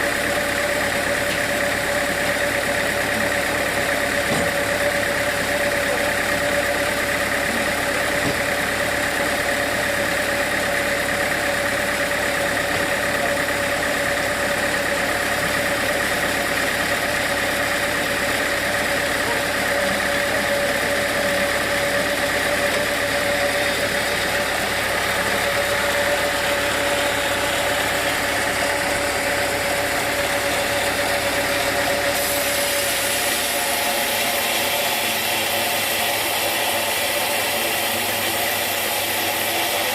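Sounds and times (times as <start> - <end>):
sawmill machinery droning: 0.0 - 39.9
steady machine whine: 0.0 - 39.9.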